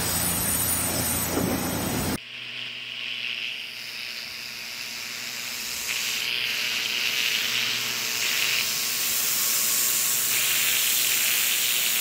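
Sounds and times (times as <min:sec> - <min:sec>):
pressure washer spraying concrete: 0:00.0 - 0:12.0.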